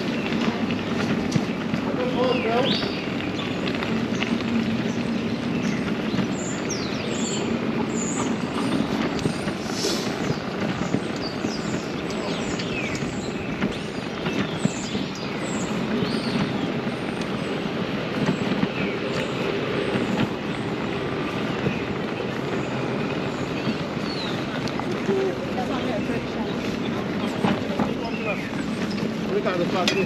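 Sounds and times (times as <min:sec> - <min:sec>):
road noise: 0:00.0 - 0:30.0
wind rushing over microphone: 0:00.0 - 0:30.0.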